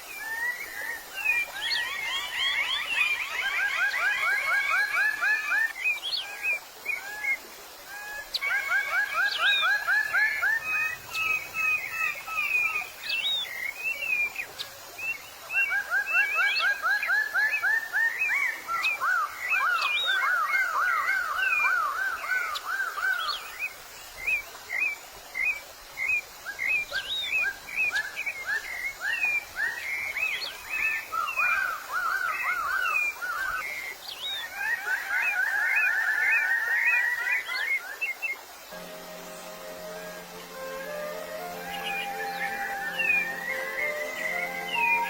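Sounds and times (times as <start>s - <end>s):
songbirds trilling: 0.0s - 45.0s.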